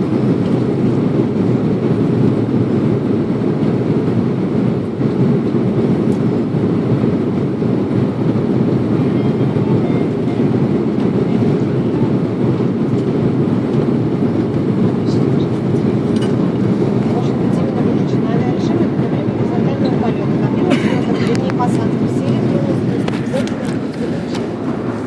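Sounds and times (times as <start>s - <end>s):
aeroplane landing rumble: 0.0s - 25.0s.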